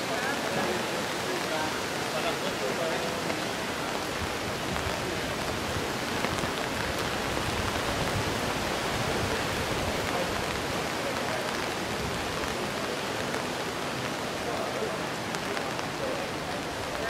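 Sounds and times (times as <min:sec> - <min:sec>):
rain on cobblestones: 0:00.0 - 0:17.0.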